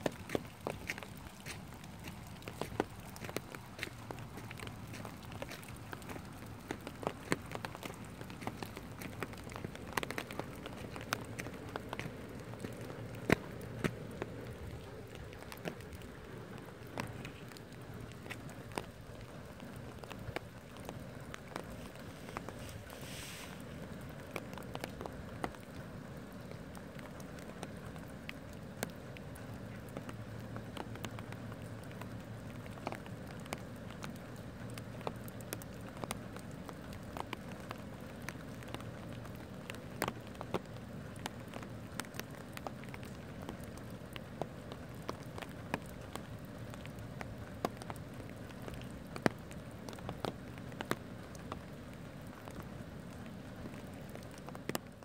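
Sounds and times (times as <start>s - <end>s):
raindrops tapping on surfaces: 0.0s - 55.0s
steady rain falling: 0.0s - 55.0s.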